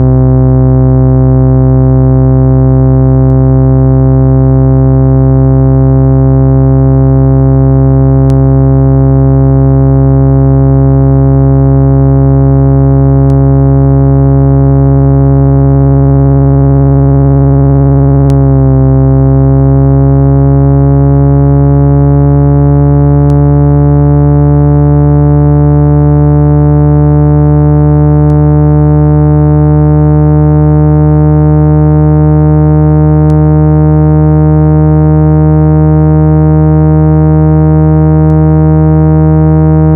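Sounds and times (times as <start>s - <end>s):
buzzy synthesized tone: 0.0s - 39.9s.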